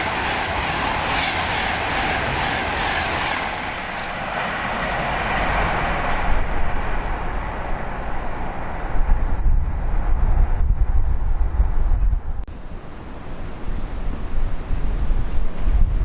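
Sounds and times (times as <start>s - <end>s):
wind buffeting microphone: 0.0s - 12.5s, 13.6s - 16.0s
train rushing past on rails: 0.0s - 16.0s.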